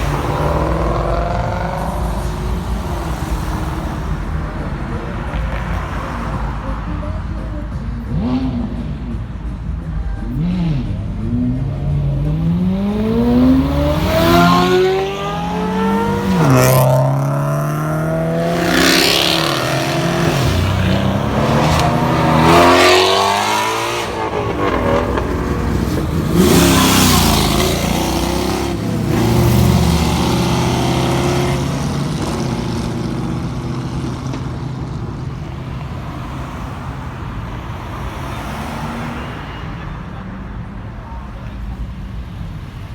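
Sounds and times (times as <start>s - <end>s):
cars accelerating and revving: 0.0s - 42.9s.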